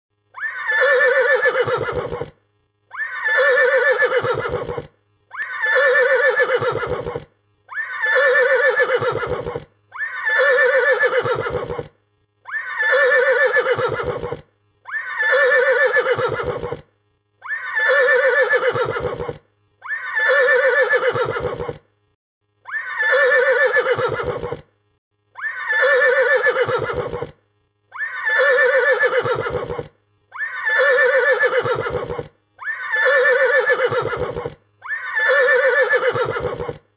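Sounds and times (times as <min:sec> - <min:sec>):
horse neighing: 0:00.4 - 0:11.9, 0:12.5 - 0:16.8, 0:17.4 - 0:21.8, 0:22.7 - 0:24.7, 0:25.4 - 0:27.4, 0:28.0 - 0:36.8.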